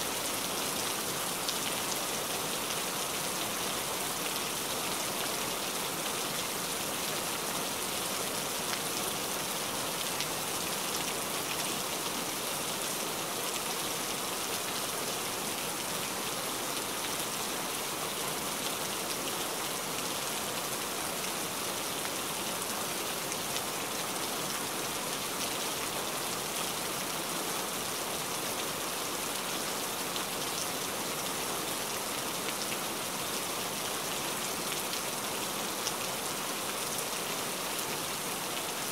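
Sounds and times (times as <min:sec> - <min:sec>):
heavy rain on wet ground: 0:00.0 - 0:38.9.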